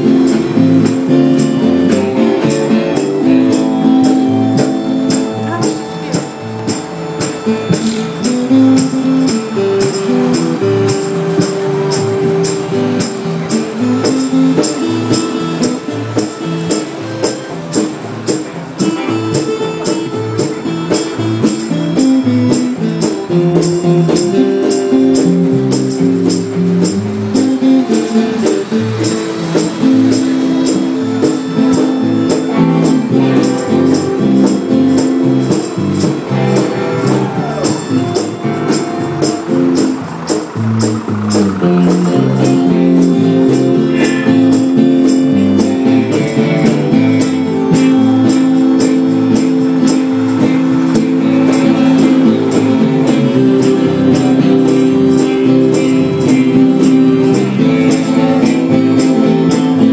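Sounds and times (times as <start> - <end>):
song with percussion beat: 0.0 - 59.9.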